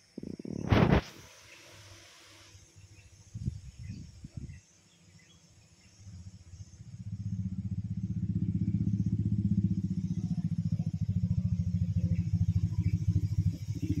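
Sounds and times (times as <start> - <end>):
engine running with low throb: 0.0 - 14.0.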